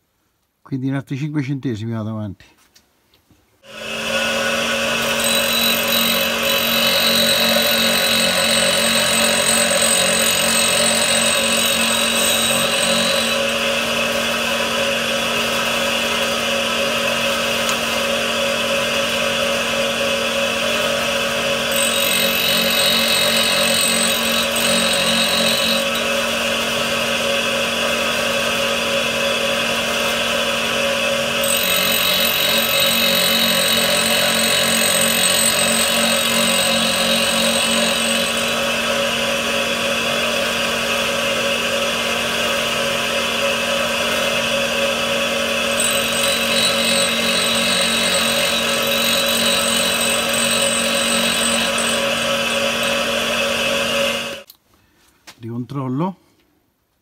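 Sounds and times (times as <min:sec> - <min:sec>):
grinder motor humming: 0:03.7 - 0:27.0, 0:30.0 - 0:41.3, 0:42.2 - 0:54.5
high grinding whine: 0:03.7 - 0:54.5.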